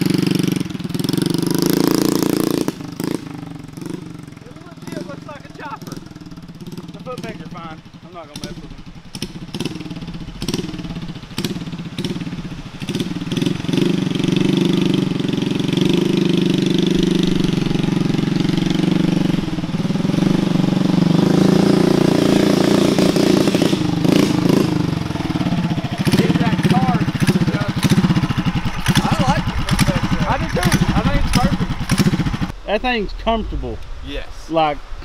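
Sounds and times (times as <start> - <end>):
mini motorcycle engine: 0.0 - 32.6.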